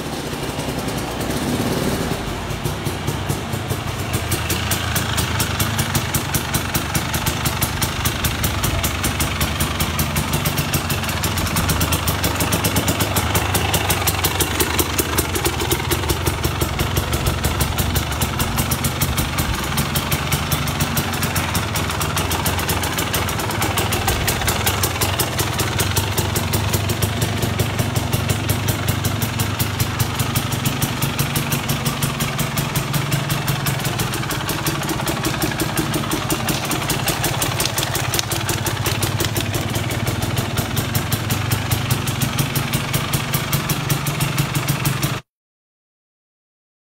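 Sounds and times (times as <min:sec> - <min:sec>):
dirt bike engine idling: 0:00.0 - 0:45.2.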